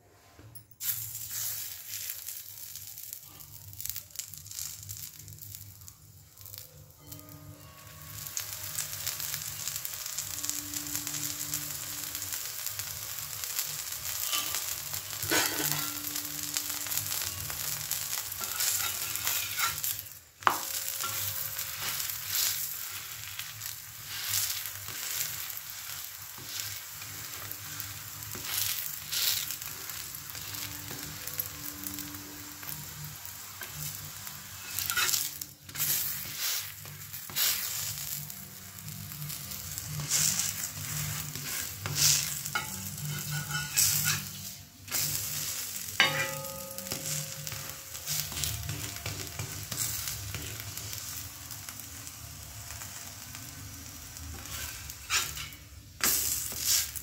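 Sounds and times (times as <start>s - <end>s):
flatbread sizzling in oil: 0.8s - 57.0s.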